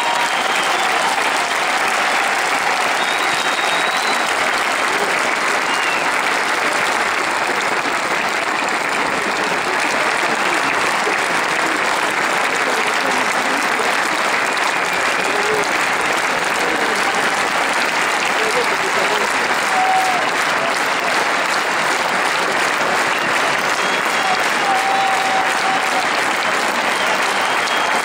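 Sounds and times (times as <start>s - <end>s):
audience applause: 0.0s - 28.0s.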